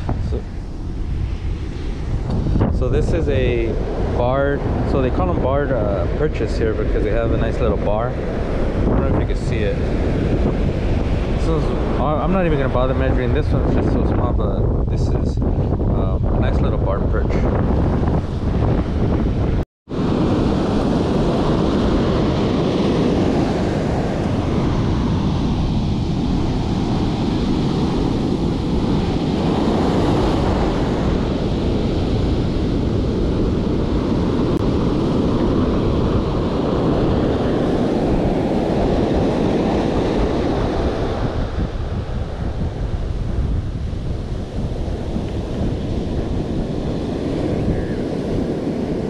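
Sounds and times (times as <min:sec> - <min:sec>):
ocean surf breaking: 0:00.0 - 0:14.8, 0:15.4 - 0:49.0
wind buffeting microphone: 0:00.0 - 0:49.0.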